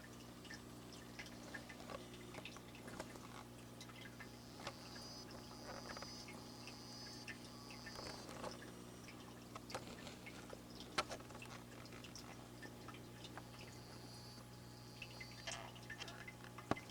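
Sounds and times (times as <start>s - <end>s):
steady low hum: 0.0s - 16.9s
frogs clicking: 0.1s - 16.9s.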